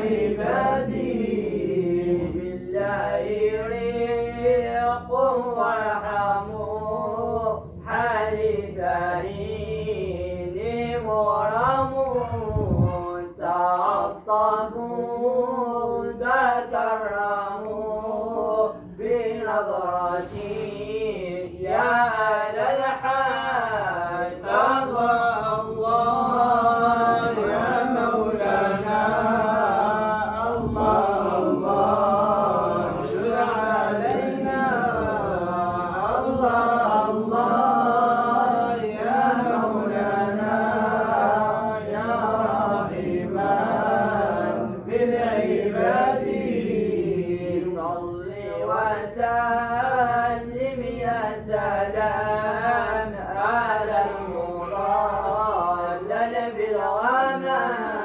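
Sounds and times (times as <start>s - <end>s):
devotional praise songs chanted: 0.0s - 58.0s.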